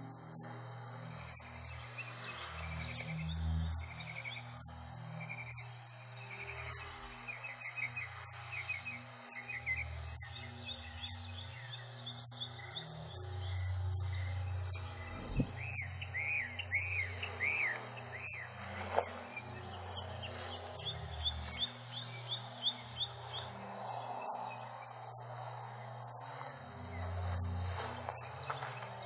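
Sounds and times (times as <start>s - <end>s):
insects pulsing: 0.0s - 29.0s.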